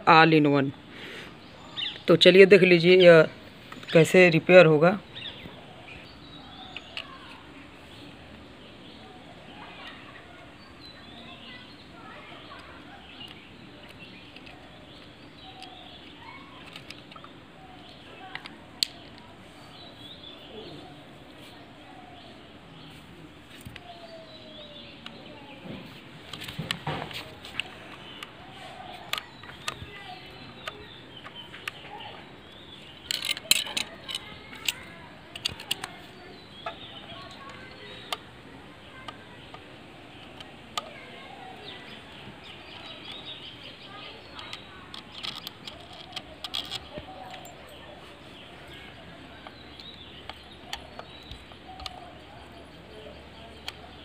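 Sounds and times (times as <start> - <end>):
birds chirping faintly: 0.0 - 54.0.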